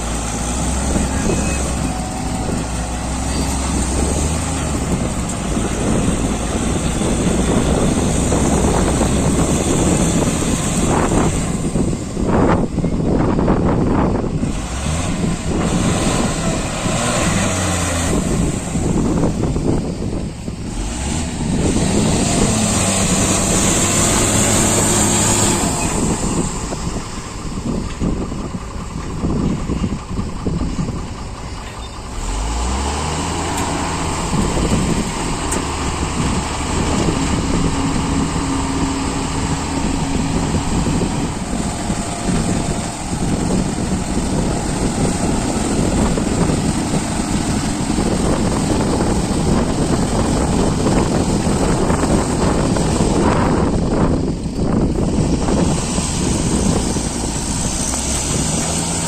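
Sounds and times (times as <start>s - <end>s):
diesel engines running: 0.0s - 59.0s
engine revving: 0.0s - 59.0s.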